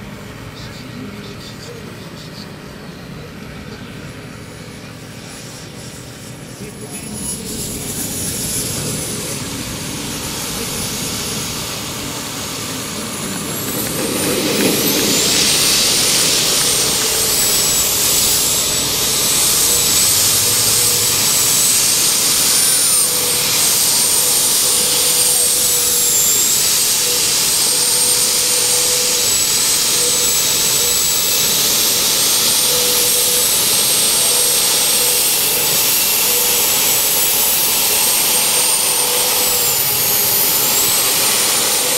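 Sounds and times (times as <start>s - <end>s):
model jet engine whine: 0.0s - 41.9s.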